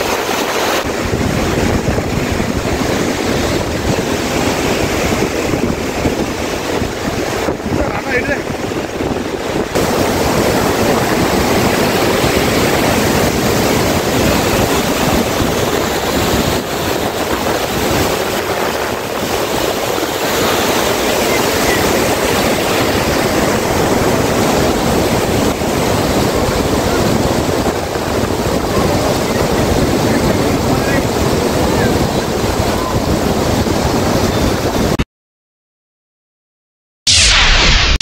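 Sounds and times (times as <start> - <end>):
floodwater rushing over spillway: 0.0 - 34.9
wind buffeting microphone: 0.0 - 35.0.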